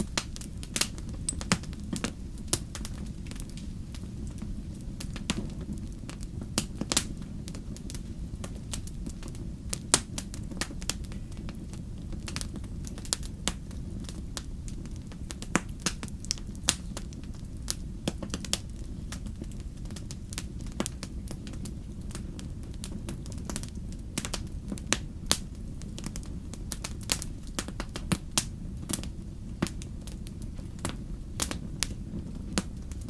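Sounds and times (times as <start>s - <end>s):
fire pops and snaps: 0.0s - 33.0s
low rumble of flames: 0.0s - 33.0s.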